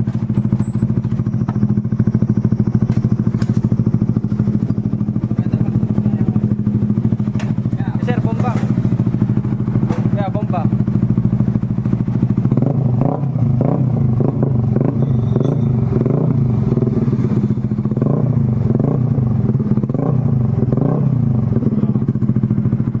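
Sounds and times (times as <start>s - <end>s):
motorcycle idling with open exhaust: 0.0s - 23.0s.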